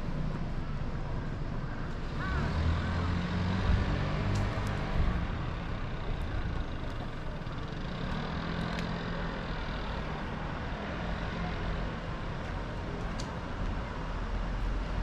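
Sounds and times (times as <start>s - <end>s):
traffic noise: 0.0s - 15.0s
vehicle engine running nearby: 0.0s - 15.0s.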